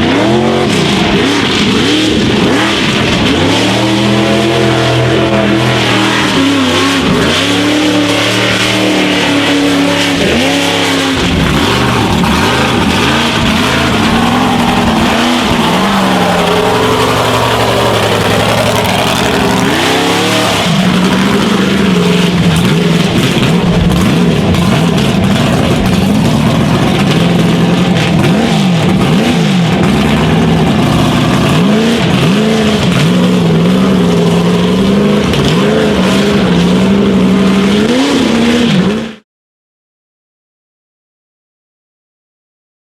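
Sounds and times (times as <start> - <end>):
truck engine revving hard: 0.0 - 39.2.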